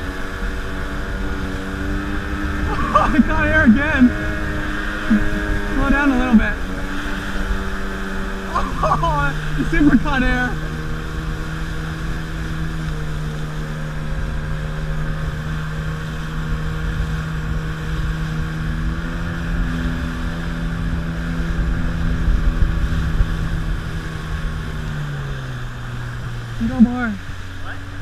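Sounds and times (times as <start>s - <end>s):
motorboat engine running: 0.0s - 28.0s
water rushing in wake: 0.0s - 28.0s
wind on microphone: 0.0s - 28.0s.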